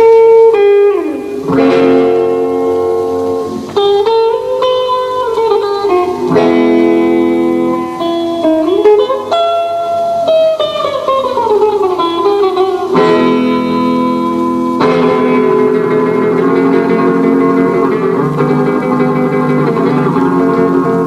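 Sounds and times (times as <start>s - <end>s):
guitar melody: 0.0s - 21.0s.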